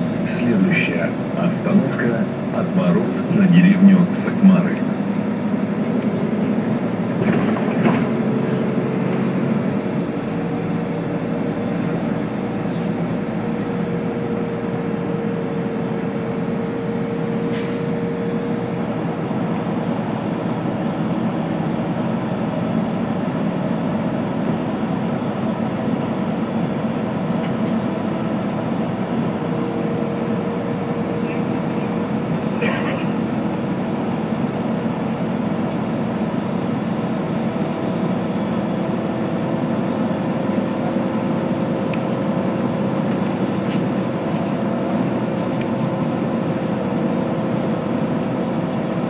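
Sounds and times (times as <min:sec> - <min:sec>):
bus engine and road noise: 0:00.0 - 0:49.0.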